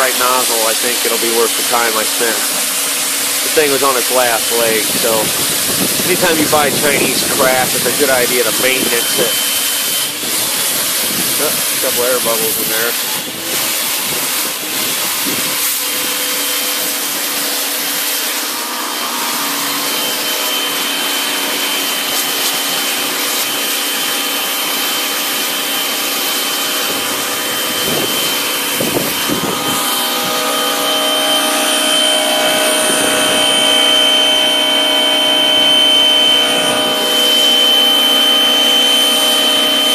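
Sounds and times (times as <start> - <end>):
pressure washer motor whine: 0.0 - 39.9
water jet hissing: 0.0 - 39.9.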